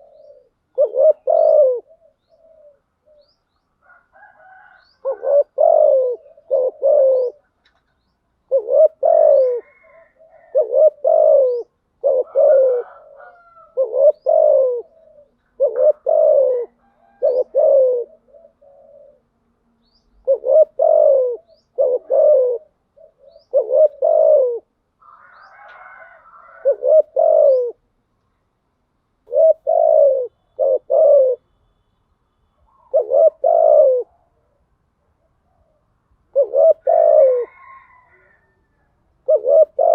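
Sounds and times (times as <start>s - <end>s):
dove cooing: 0.0s - 19.5s, 20.1s - 27.8s, 29.2s - 31.5s, 32.6s - 39.9s.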